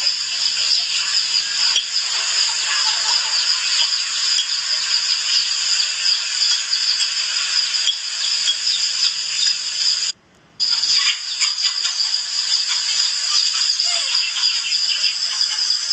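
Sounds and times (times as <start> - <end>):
high-pitched hiss: 0.0 - 15.9.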